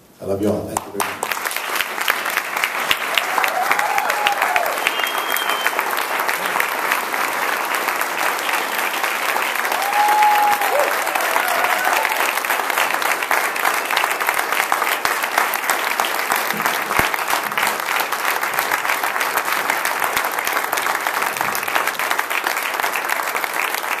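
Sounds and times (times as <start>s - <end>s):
crowd applauding: 0.8s - 24.0s.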